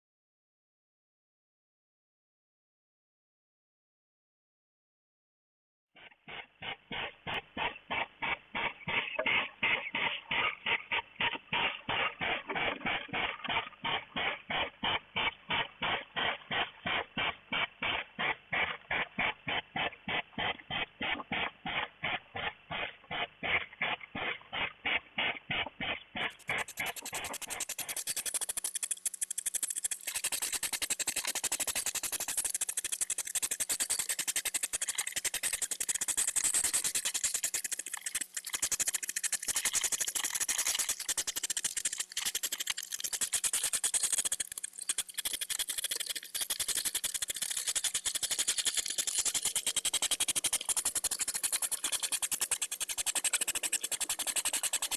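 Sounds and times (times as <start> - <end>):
hedgehogs huffing and snorting: 6.0 - 54.9.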